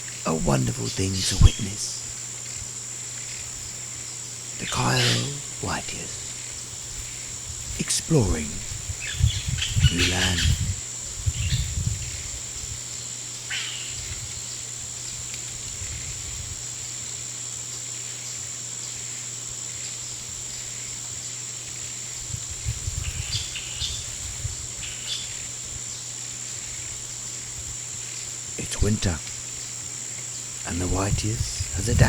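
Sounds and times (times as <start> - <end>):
insect-like drone: 0.0 - 32.0.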